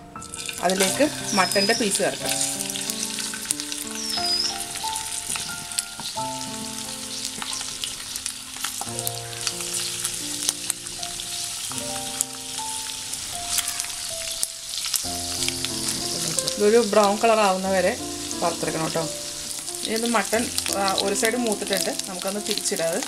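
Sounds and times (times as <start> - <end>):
soft background music: 0.0 - 23.0
meat sizzling in hot fat: 0.1 - 23.0.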